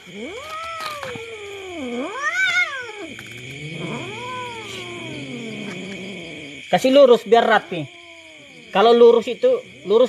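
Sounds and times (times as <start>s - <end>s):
cat yowling: 0.0s - 6.6s, 7.3s - 10.0s.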